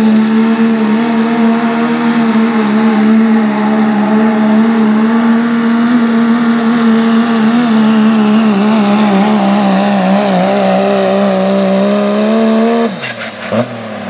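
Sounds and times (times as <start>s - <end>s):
diesel truck engine at full load: 0.0s - 14.0s.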